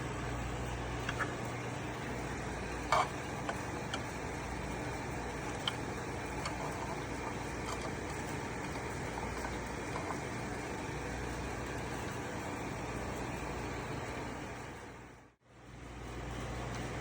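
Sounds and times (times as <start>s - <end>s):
aquarium equipment humming: 0.0s - 17.0s.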